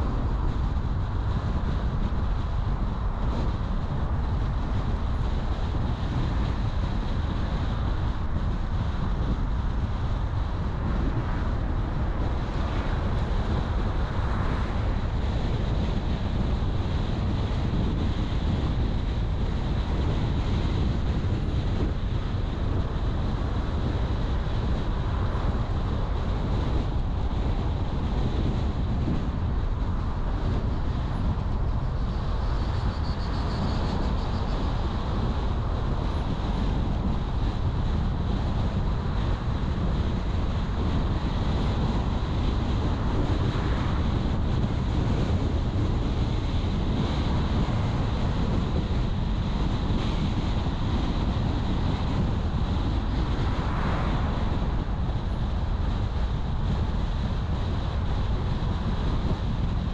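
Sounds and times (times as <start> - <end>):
road rumble: 0.0 - 59.9
wind noise: 0.0 - 59.9.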